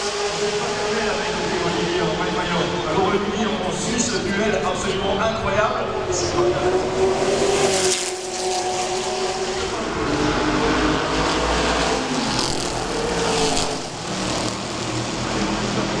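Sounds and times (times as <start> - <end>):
racing car engines: 0.0 - 16.0.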